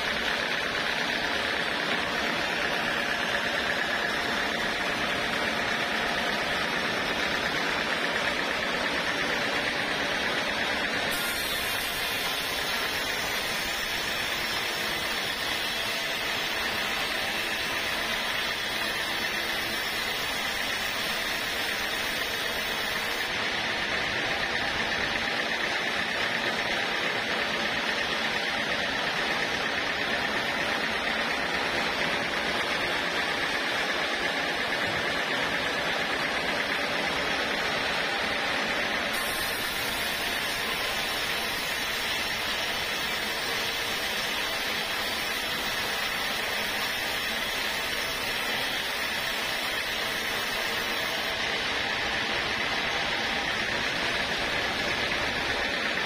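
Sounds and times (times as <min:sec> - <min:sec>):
band saw cutting wood: 0:00.0 - 0:26.2, 0:35.7 - 0:56.0.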